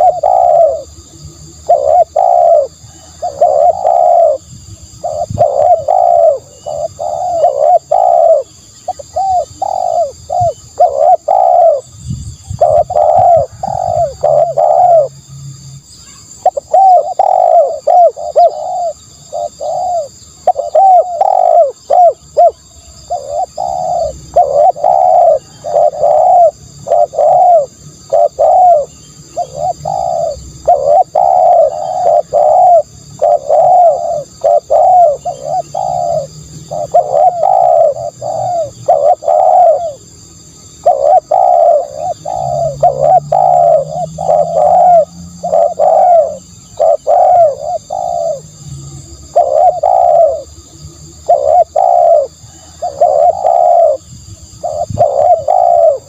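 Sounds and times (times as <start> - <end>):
dove cooing: 0.0 - 15.2, 16.1 - 56.0.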